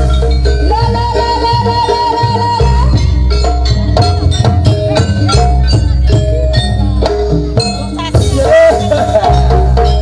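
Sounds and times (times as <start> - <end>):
gongs and metallophones melody: 0.0 - 10.0.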